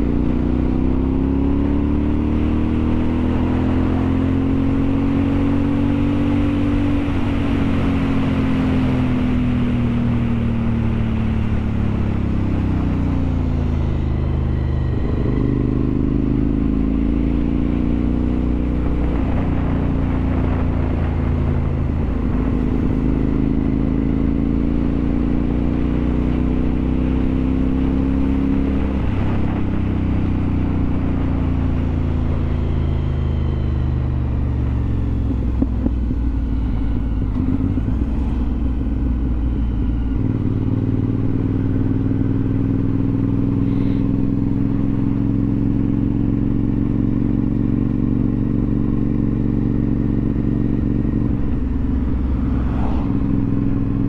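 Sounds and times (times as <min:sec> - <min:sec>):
vehicle engine running: 0:00.0 - 0:54.0
wind and road noise: 0:00.0 - 0:54.0.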